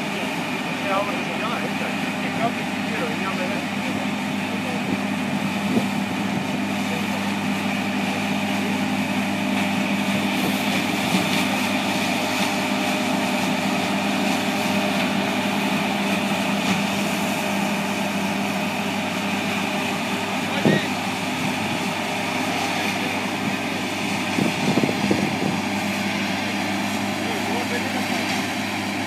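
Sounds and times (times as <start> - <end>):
combine harvester drone: 0.0 - 29.0
high machine whine: 0.0 - 29.0.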